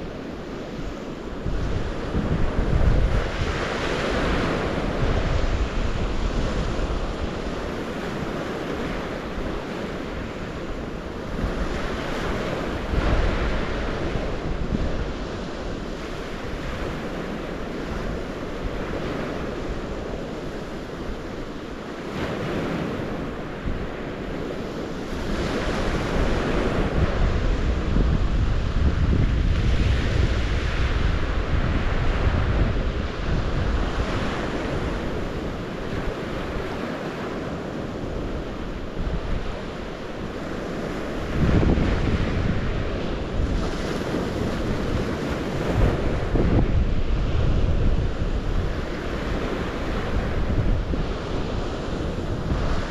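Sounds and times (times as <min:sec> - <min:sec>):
wind rumbling on microphone: 0:00.0 - 0:52.9.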